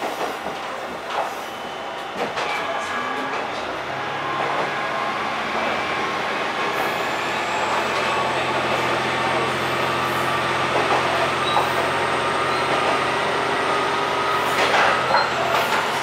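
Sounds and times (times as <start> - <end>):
railcar engine drone: 0.0 - 16.0
wheels on rail: 0.0 - 16.0.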